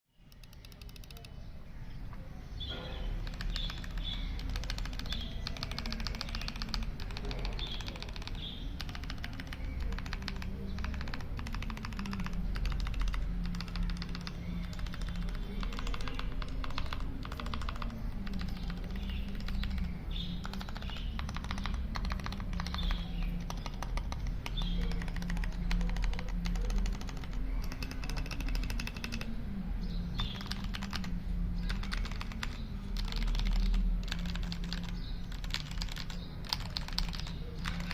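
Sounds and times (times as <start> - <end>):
mechanical keyboard typing: 0.3 - 1.4, 3.1 - 29.4, 30.1 - 37.9.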